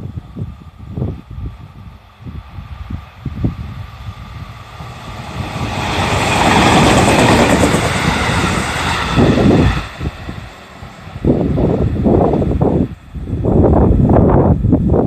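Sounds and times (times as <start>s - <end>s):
train rumbling over crossing: 0.0s - 14.9s.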